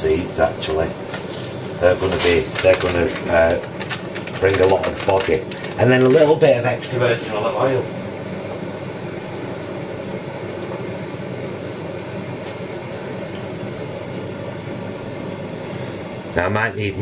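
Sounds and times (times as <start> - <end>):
appliances humming: 0.0 - 17.0.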